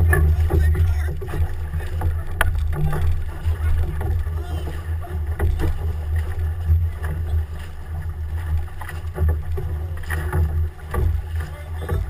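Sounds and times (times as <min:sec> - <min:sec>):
water splashing in a canoe: 0:00.0 - 0:12.0
wind rumble on microphone: 0:00.0 - 0:12.0.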